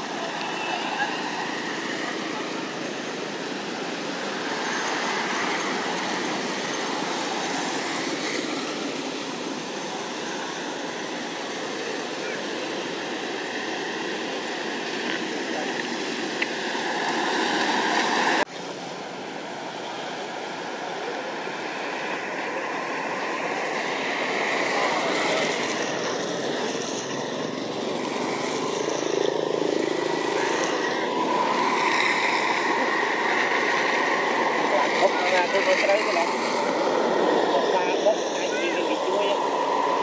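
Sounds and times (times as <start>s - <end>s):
rushing background noise: 0.0s - 40.0s.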